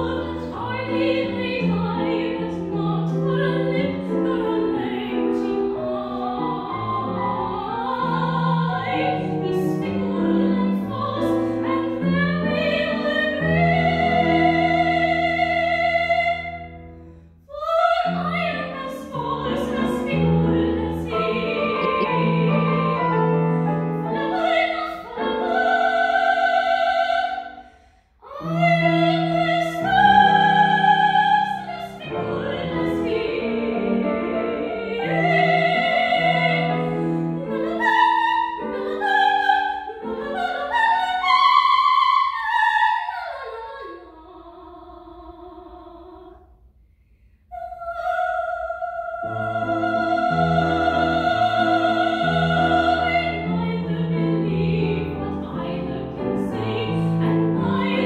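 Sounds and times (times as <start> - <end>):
operatic soprano singing: 0.0 - 16.9, 17.5 - 46.5, 47.5 - 58.0
grand piano accompaniment: 0.0 - 27.5, 28.3 - 42.4, 49.0 - 58.0.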